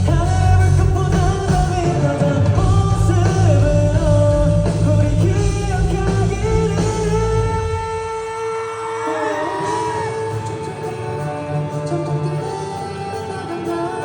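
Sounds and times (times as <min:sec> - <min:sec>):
lead vocal singing: 0:00.0 - 0:14.0
rock band playing: 0:00.0 - 0:14.0.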